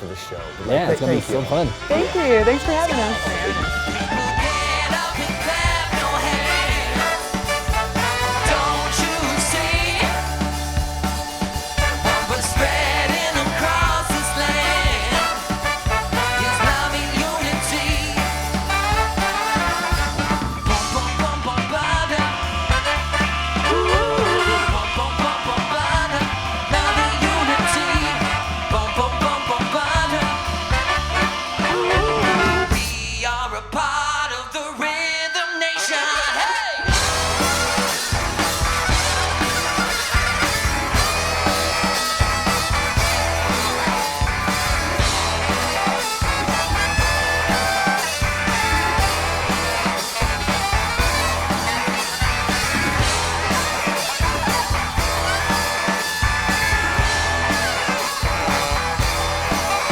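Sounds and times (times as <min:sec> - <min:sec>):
live soul band playing: 0:00.0 - 0:33.0, 0:36.9 - 0:59.9.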